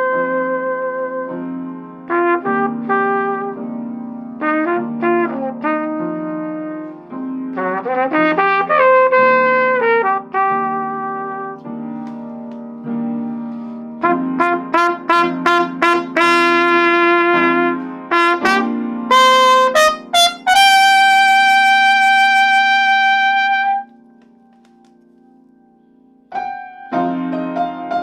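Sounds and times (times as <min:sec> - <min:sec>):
trumpet playing: 0:00.0 - 0:12.0, 0:13.5 - 0:24.1.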